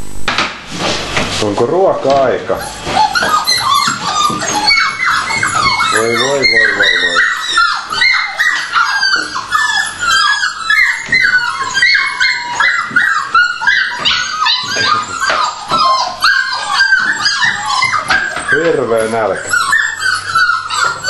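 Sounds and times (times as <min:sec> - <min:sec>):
puppies whining and yipping: 0:02.1 - 0:21.0.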